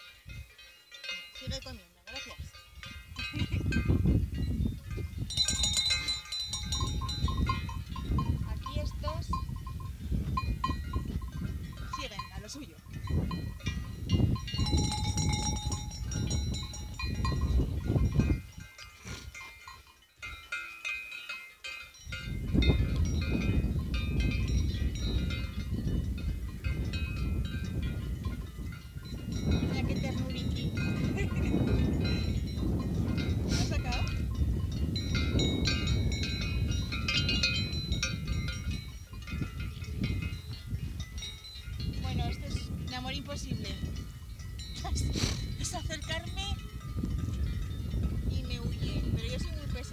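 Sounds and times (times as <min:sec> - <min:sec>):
wind rumbling on microphone: 0:00.0 - 0:00.6, 0:01.4 - 0:20.5, 0:21.9 - 0:49.9
livestock bells clanking: 0:00.0 - 0:49.9.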